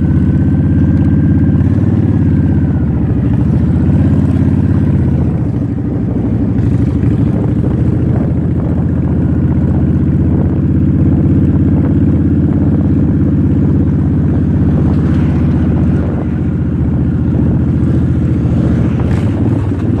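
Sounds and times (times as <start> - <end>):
motorcycle engine and exhaust running: 0.0 - 20.0.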